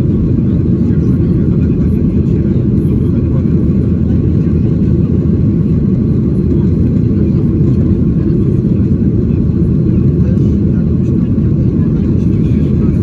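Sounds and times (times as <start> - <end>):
airflow over fuselage: 0.0 - 13.0.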